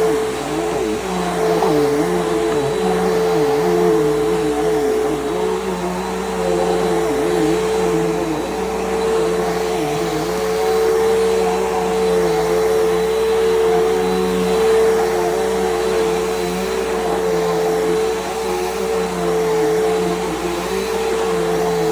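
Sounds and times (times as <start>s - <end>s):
vacuum cleaner running: 0.0s - 21.9s.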